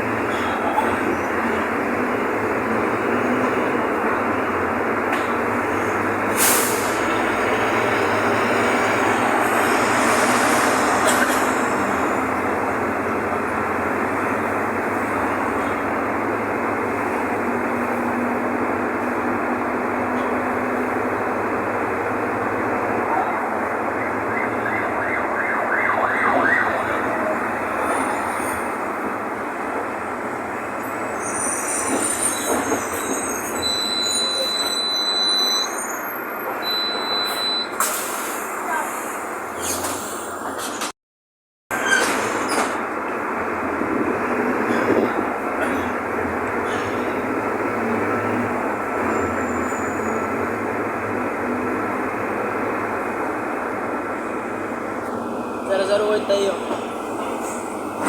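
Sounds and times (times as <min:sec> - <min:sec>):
bus diesel engine running: 0:00.0 - 0:24.7, 0:25.4 - 0:31.3, 0:32.3 - 0:40.9, 0:41.7 - 0:58.0
road noise: 0:00.0 - 0:41.0, 0:41.7 - 0:58.0.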